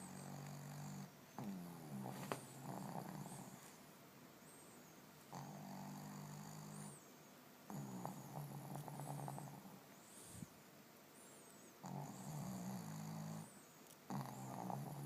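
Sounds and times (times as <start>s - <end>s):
dog snoring: 0.0s - 3.8s, 4.5s - 7.1s, 7.7s - 10.5s, 11.2s - 15.0s.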